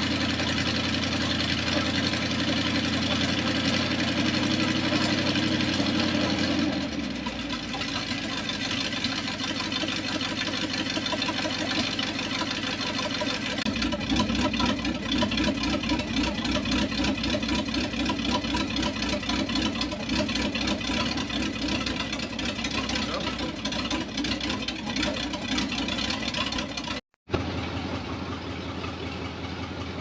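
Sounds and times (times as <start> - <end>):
pickup engine idling: 0.0 - 30.0.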